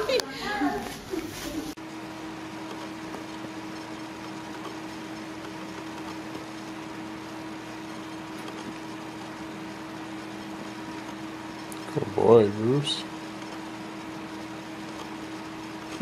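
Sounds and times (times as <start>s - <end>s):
room hum with hiss: 0.0s - 16.0s.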